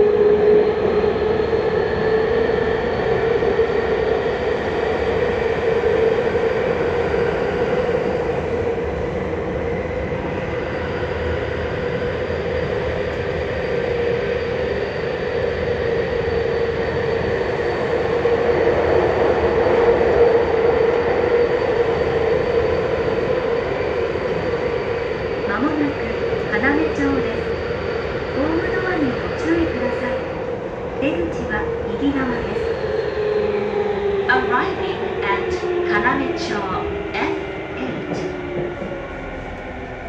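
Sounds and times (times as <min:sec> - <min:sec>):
high electric train whine: 0:00.0 - 0:40.0
train wheel and track rumble: 0:00.0 - 0:40.0.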